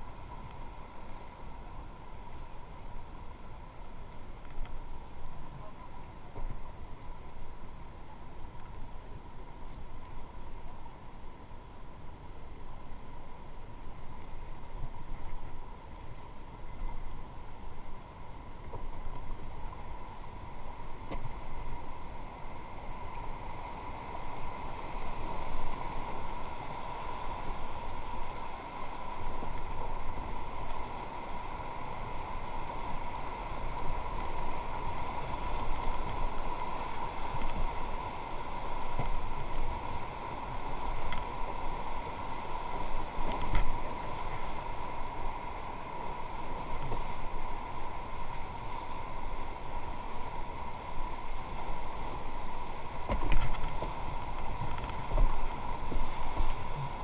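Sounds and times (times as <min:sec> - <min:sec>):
rushing river water: 0:00.0 - 0:57.0
wind rumble on microphone: 0:00.0 - 0:57.0.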